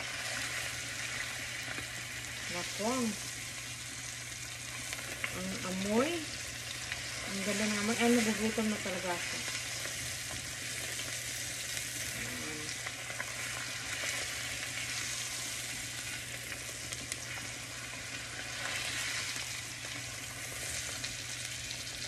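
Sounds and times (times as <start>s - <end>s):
steak sizzling in butter: 0.0s - 22.0s.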